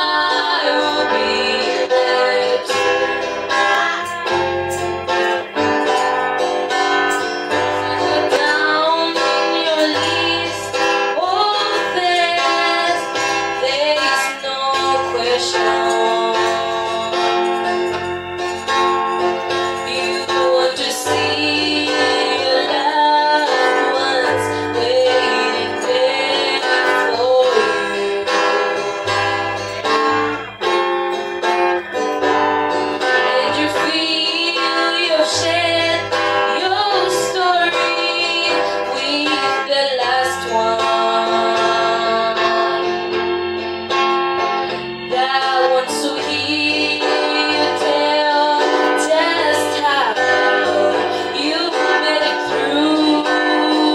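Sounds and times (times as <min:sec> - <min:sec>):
girls singing gospel song: 0:00.0 - 0:28.9, 0:32.9 - 0:43.2, 0:45.0 - 0:53.9
guitar accompaniment: 0:00.0 - 0:53.9.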